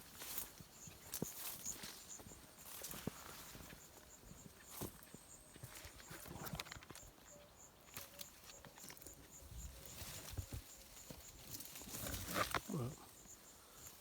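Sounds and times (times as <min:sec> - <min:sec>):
footsteps on dry ground and brush: 0:00.0 - 0:12.7.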